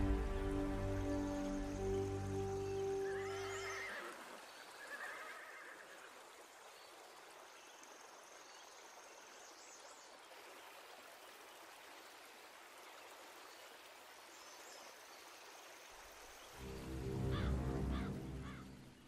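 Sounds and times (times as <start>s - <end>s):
faint river rushing: 0.0s - 19.0s.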